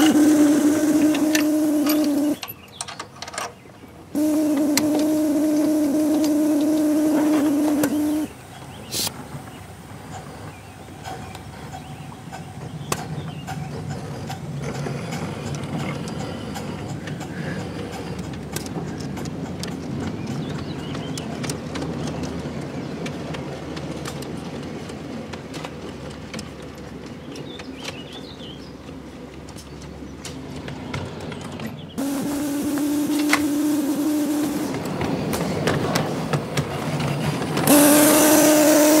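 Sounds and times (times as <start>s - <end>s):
miniature train rolling past: 0.0s - 39.0s
wheels clicking on track: 0.0s - 39.0s.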